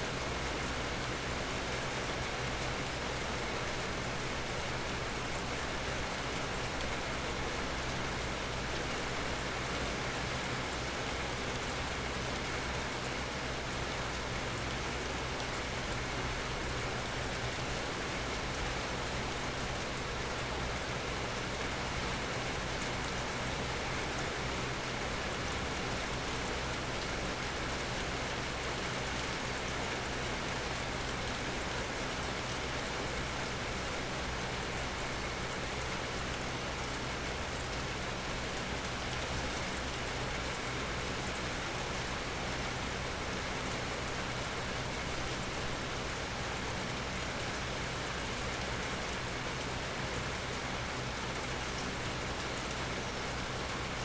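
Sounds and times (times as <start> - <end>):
rain pattering under a tree: 0.0 - 54.0.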